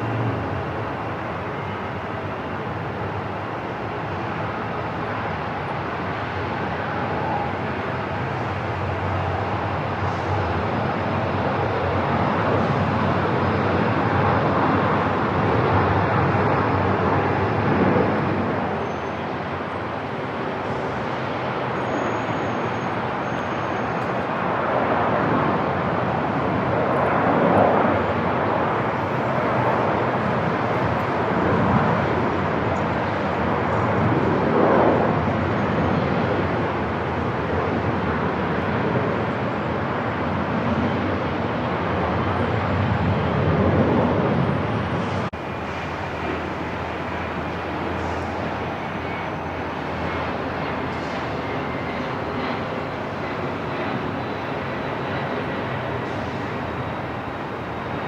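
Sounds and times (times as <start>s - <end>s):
aircraft engine rush: 0.0s - 58.0s.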